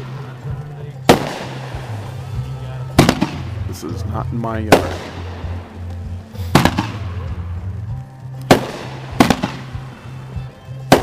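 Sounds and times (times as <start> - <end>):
firework shells bursting: 0.0 - 11.0
low-pitched background music: 0.0 - 11.0.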